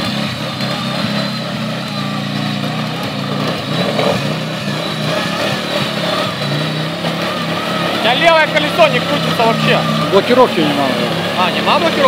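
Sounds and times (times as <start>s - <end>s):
utility vehicle engine revving: 0.0s - 12.0s.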